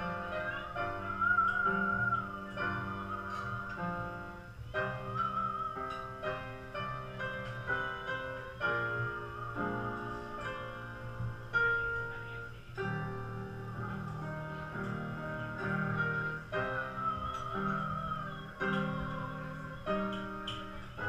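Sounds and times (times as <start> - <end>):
upright piano melody: 0.0 - 21.0.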